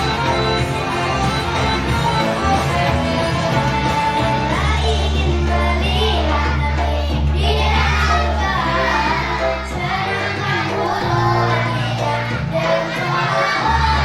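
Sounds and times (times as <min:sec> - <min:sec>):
children's choir singing: 0:00.0 - 0:14.0
instrumental backing music: 0:00.0 - 0:14.0.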